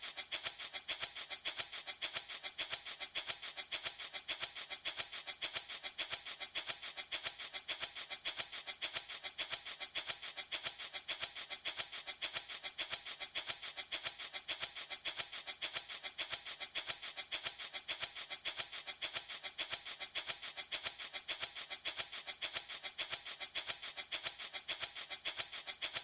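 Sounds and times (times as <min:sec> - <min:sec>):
baby rattle shaking: 0:00.0 - 0:26.0.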